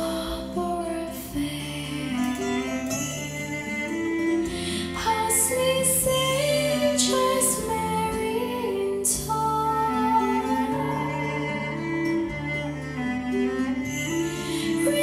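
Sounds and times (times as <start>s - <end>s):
woman singing: 0.0s - 3.3s, 4.5s - 12.4s, 14.0s - 15.0s
sustained instrumental chords: 0.0s - 15.0s.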